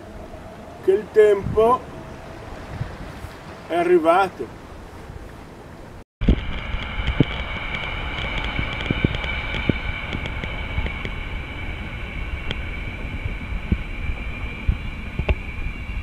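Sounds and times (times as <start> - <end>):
high whine: 0.0 - 4.8, 6.2 - 16.0
train rumbling: 0.0 - 16.0.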